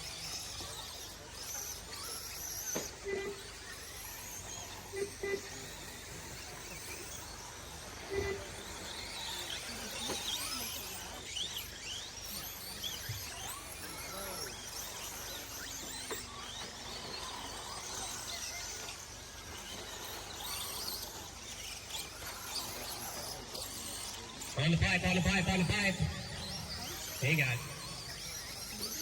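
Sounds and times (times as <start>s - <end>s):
rc truck motors whining: 0.0s - 29.0s.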